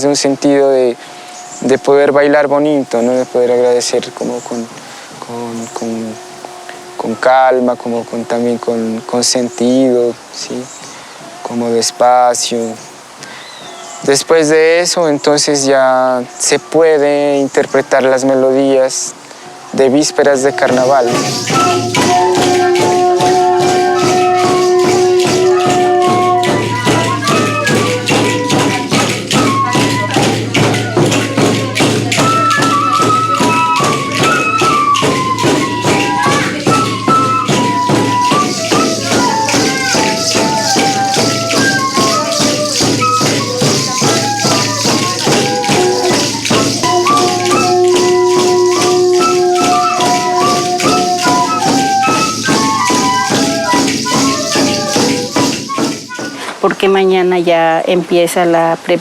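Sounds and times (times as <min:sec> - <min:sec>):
flute melody: 0:00.0 - 0:57.3
shaken jingling percussion: 0:00.0 - 0:58.0.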